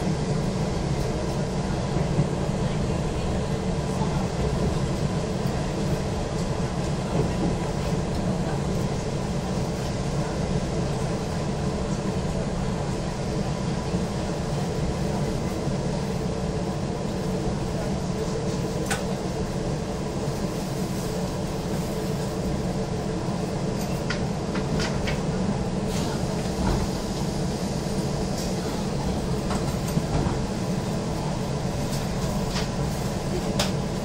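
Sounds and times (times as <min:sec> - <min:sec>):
train running hum: 0:00.0 - 0:34.0.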